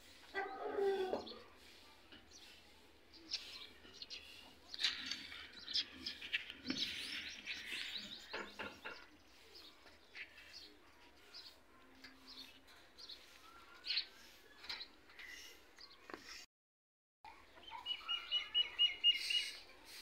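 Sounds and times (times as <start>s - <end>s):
birds chirping: 0.4s - 16.4s, 17.5s - 19.8s.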